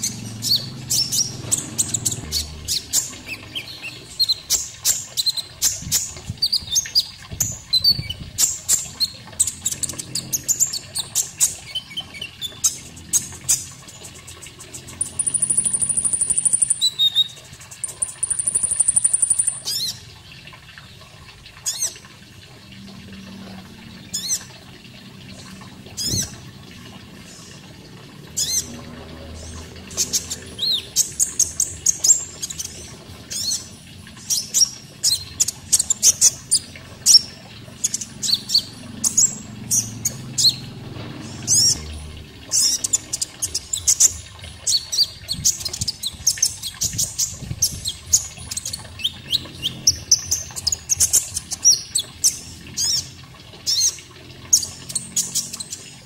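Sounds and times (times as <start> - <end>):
faint water sound: 0.0 - 56.0.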